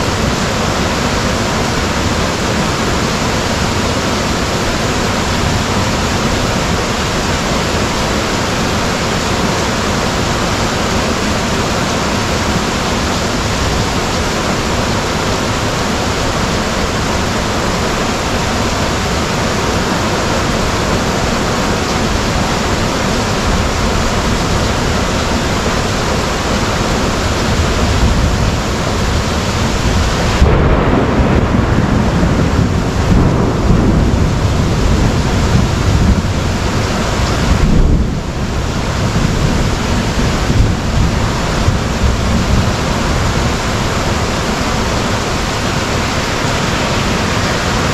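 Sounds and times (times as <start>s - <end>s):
heavy rain pouring: 0.0s - 47.9s
thunder rumbling: 0.0s - 47.9s.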